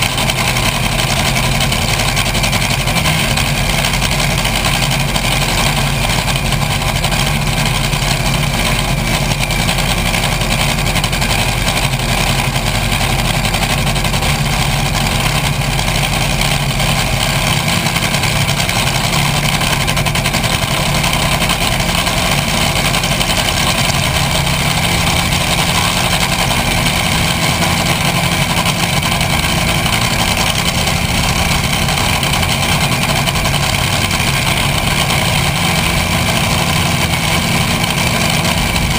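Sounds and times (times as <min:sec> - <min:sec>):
dragster engine idling: 0:00.0 - 0:38.9.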